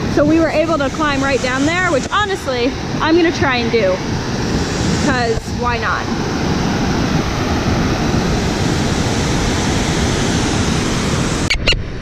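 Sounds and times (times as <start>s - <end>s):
waterfall rushing: 0.0s - 11.5s.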